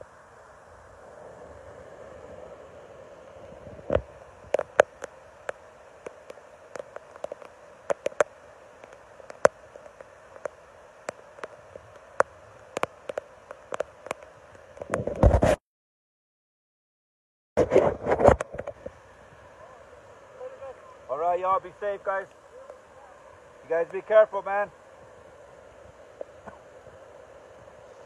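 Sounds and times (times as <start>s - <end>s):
floodwater flowing hiss: 0.0s - 15.4s, 17.7s - 28.0s.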